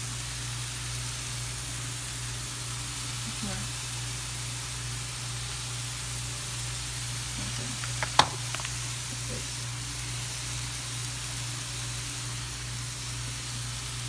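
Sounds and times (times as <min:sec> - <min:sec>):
burger patties sizzling on griddle: 0:00.0 - 0:14.0.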